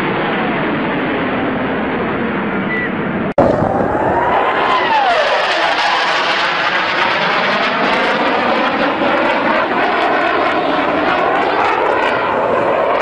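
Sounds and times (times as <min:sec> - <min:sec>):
fighter jet flying low: 0:00.0 - 0:13.0.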